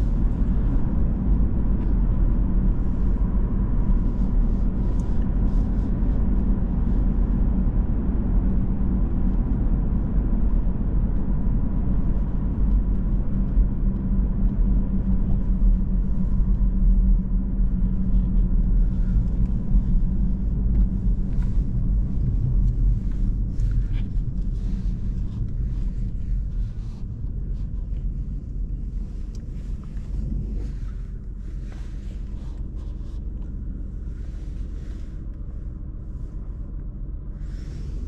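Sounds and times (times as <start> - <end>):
diesel engine drone: 0.0 - 38.0
road and tyre noise: 0.0 - 38.0.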